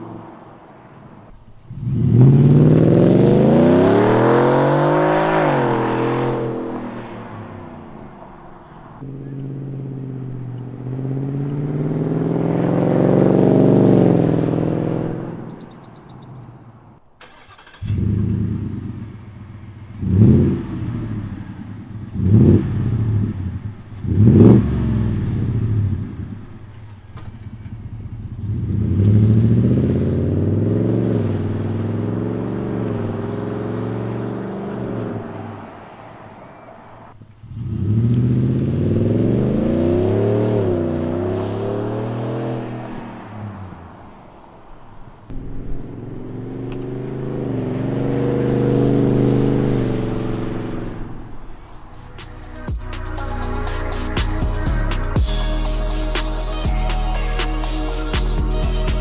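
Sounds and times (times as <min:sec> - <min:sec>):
truck accelerating: 0:00.0 - 0:59.0
truck engine revving: 0:01.3 - 0:08.0, 0:09.0 - 0:16.4, 0:17.0 - 0:36.0, 0:36.8 - 0:59.0.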